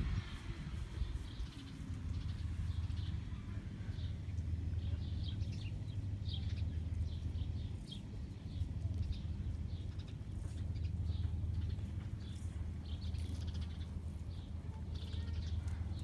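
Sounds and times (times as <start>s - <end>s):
birds chirping: 1.1s - 16.0s.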